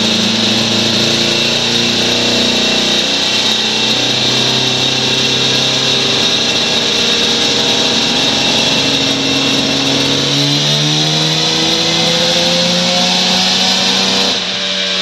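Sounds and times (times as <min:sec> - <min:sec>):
steady high whine: 0:00.0 - 0:15.0
two-stroke engine revving: 0:00.0 - 0:15.0.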